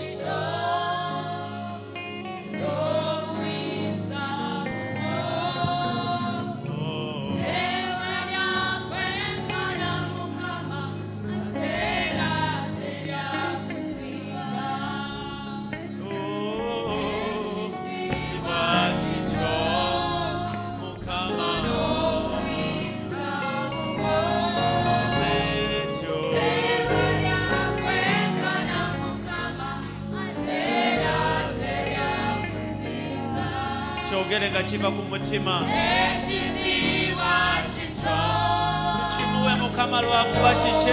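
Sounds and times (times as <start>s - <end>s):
gospel choir singing with band: 0.0s - 40.9s.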